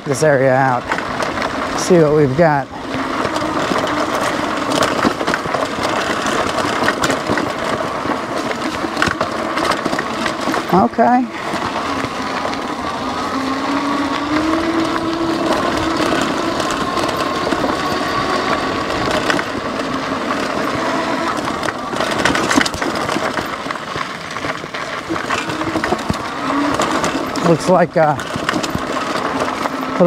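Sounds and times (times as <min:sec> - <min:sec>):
bike knocks and rattles: 0:00.0 - 0:30.0
electric hub motor whine: 0:00.0 - 0:30.0
tyres crunching on gravel: 0:00.0 - 0:30.0.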